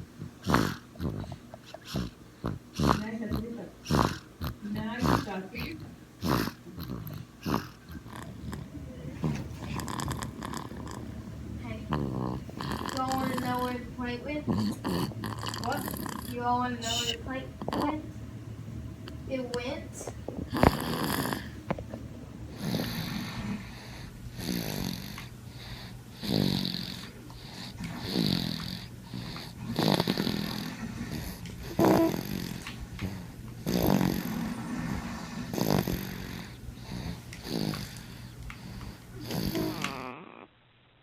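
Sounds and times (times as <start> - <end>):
baby snoring: 0.0 - 18.1, 19.0 - 40.5.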